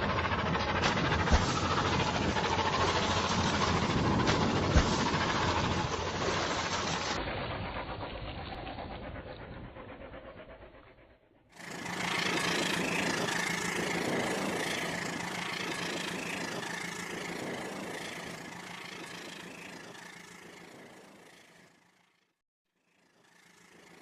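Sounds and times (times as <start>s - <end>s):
toy train motor drone: 0.0s - 10.7s, 11.6s - 24.0s.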